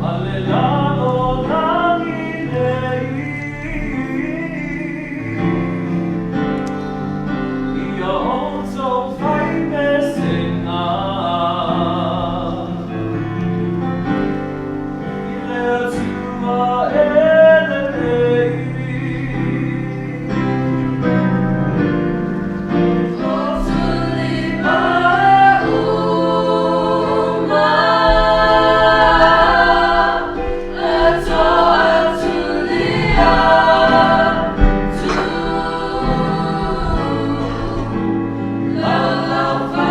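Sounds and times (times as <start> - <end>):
young voices singing together: 0.0 - 21.3, 22.0 - 39.9.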